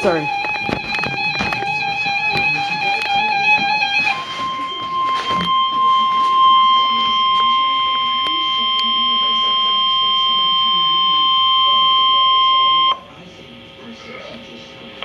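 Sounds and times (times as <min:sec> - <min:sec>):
steady high alarm tone: 0:00.0 - 0:13.0.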